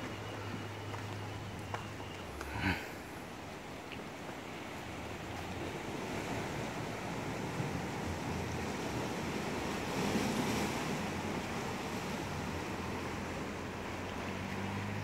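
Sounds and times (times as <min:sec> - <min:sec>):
sea waves on rocky shore: 0:02.3 - 0:15.0.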